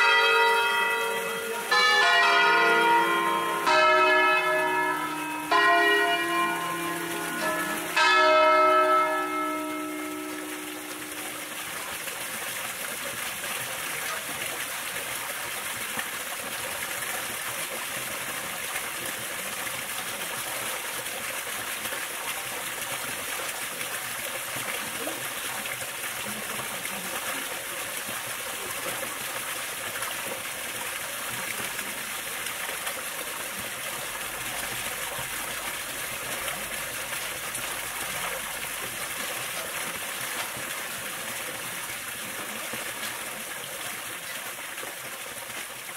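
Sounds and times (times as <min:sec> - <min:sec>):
running water rushing: 0:00.0 - 0:45.9.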